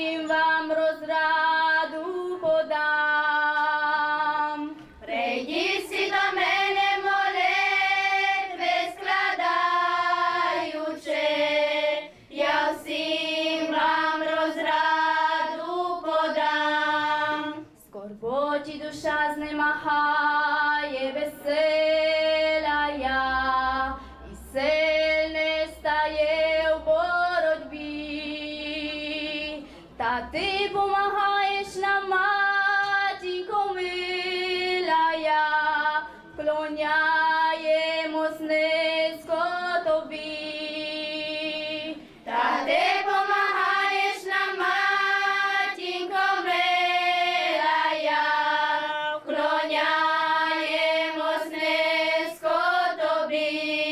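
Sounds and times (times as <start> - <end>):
girls' choir singing: 0.0 - 53.9.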